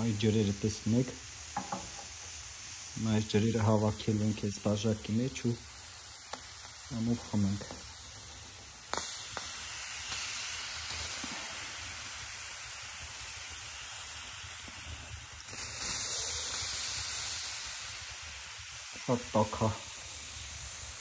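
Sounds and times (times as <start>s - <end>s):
mushrooms sizzling on stove top: 0.0s - 21.0s.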